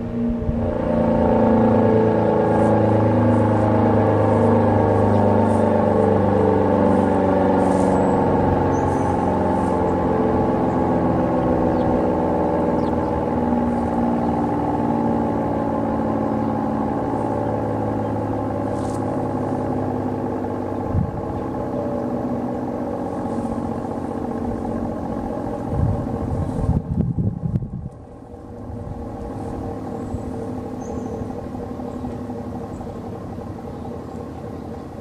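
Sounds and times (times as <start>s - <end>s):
warning siren wail: 0.0s - 35.0s.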